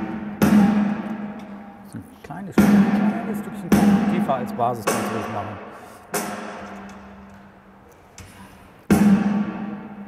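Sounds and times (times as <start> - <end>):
snare drum strokes in a hall: 0.0 - 1.8, 2.5 - 7.2, 8.2 - 10.0.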